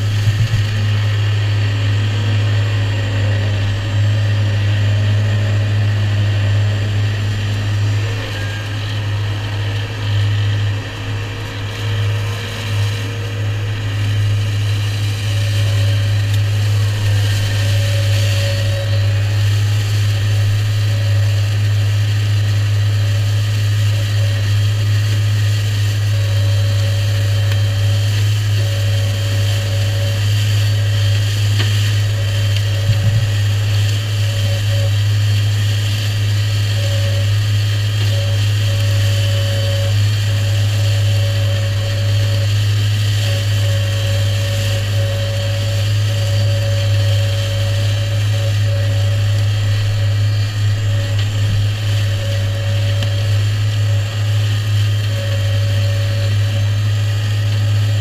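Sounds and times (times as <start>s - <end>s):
hedge cutter flail whine: 0.0s - 58.0s
tractor engine running under load: 0.0s - 58.0s.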